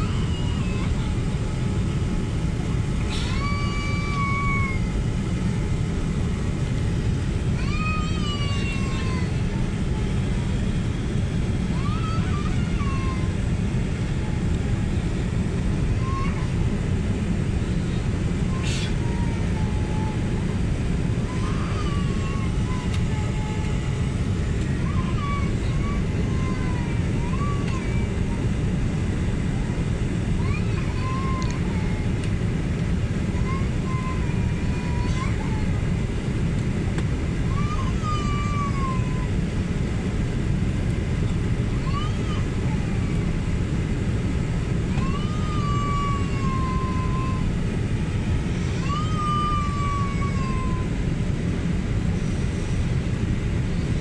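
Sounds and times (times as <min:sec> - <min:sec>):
engines and airflow rumble: 0:00.0 - 0:54.0.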